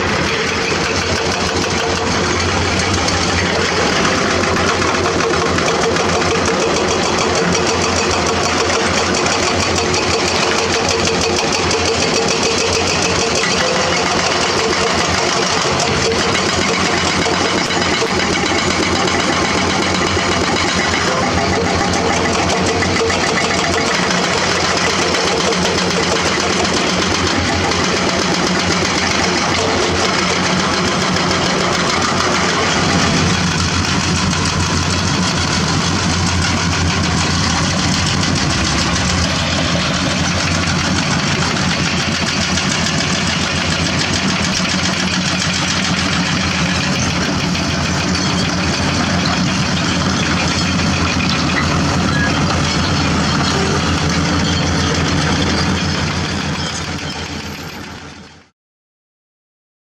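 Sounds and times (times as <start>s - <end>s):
heavy machine diesel engines: 0.0s - 58.5s.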